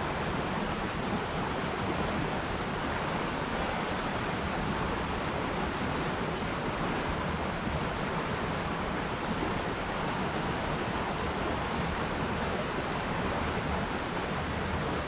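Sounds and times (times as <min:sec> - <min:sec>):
river water rushing over rocks: 0:00.0 - 0:15.0.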